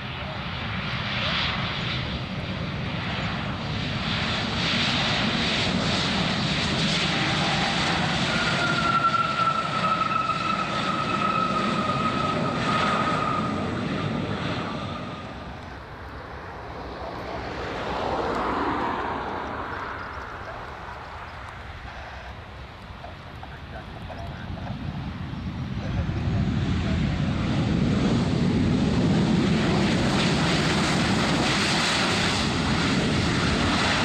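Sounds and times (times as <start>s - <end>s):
another jet engine: 0.0s - 34.0s
jet engines roaring: 0.0s - 34.0s.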